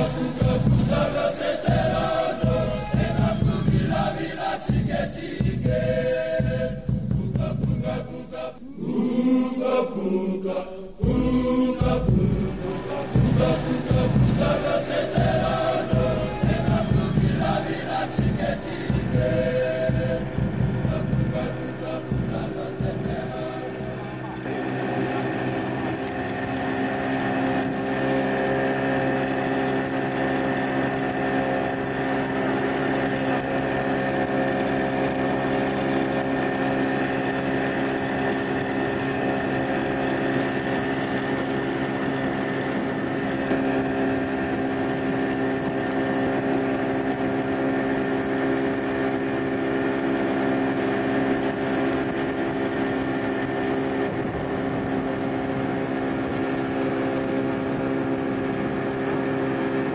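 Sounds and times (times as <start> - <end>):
motorboat engine droning: 0.0 - 59.9.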